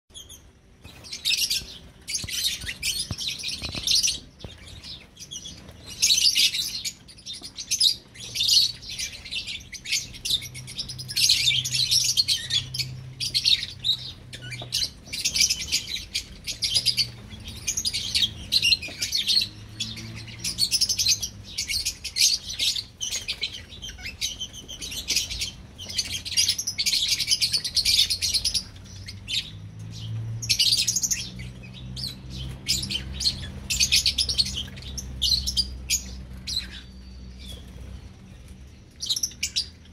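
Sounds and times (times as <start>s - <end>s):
lovebirds chirping: 0.1s - 39.9s.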